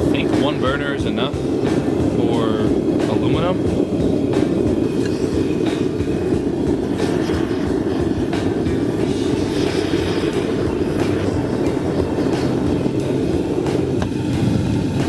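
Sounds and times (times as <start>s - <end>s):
gas burner flame rushing: 0.0s - 15.0s.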